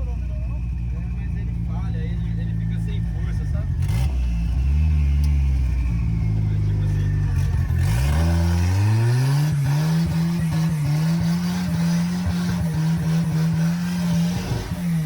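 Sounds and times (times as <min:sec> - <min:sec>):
turbocharged engine revving: 0:00.0 - 0:15.0.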